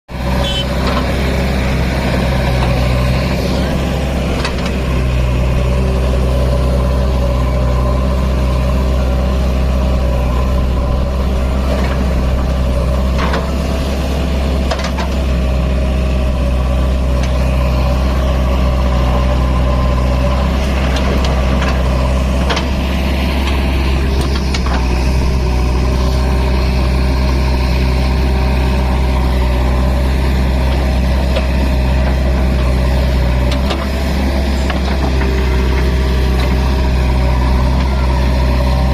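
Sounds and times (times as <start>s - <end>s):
heavy diesel engine running: 0.1s - 38.9s.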